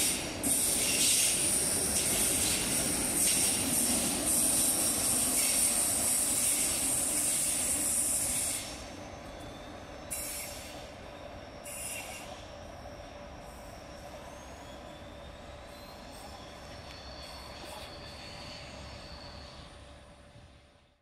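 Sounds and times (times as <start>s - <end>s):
train running past: 0.0s - 21.0s.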